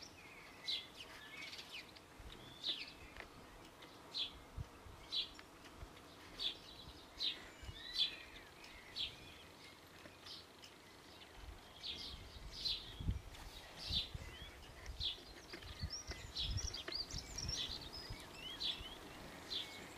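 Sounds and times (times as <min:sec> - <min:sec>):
soft bird twittering: 0:00.0 - 0:05.4, 0:06.1 - 0:19.9.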